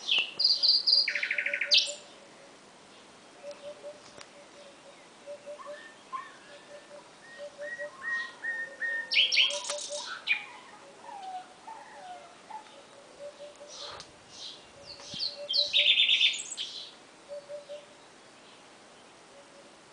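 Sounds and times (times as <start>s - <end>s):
nightingale singing: 0.0s - 19.8s.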